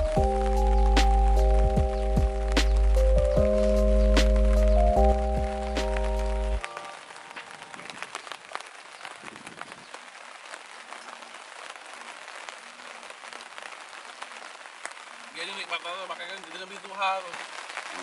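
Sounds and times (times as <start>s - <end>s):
rain pattering on a tarpaulin: 0.0s - 18.0s.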